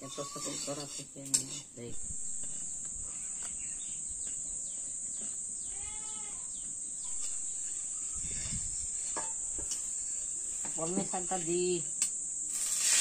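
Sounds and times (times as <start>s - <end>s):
high-pitched insect chirring: 0.0s - 13.0s.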